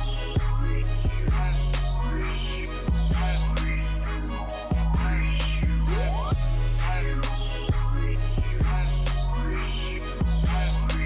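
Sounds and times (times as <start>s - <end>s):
hip hop music with heavy bass: 0.0s - 11.0s.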